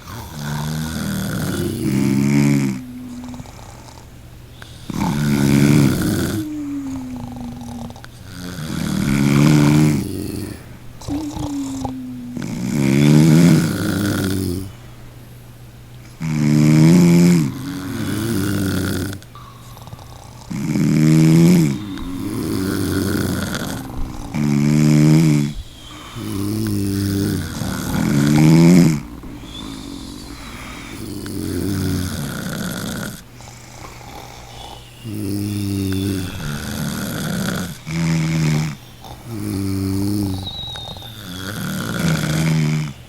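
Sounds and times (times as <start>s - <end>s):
loud snores: 0.0s - 14.8s, 16.2s - 43.0s
softer snoring breaths: 0.0s - 15.1s, 16.1s - 43.0s.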